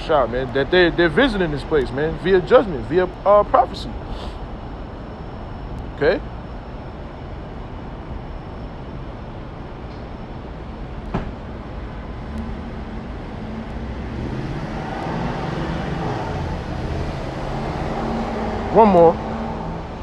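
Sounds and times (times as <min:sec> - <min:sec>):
low engine-like hum: 0:00.0 - 0:20.0
vehicle rumble: 0:00.0 - 0:20.0.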